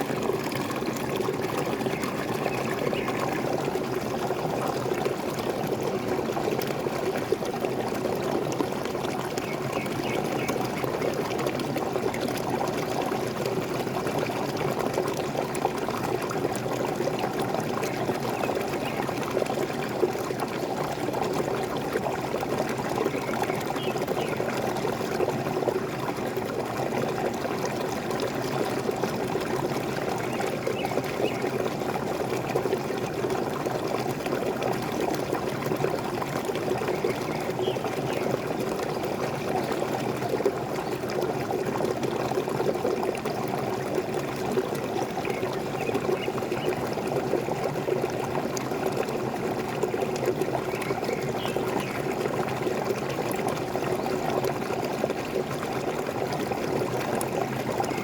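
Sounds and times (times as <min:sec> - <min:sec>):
small waterfall pouring and splashing: 0:00.0 - 0:58.0.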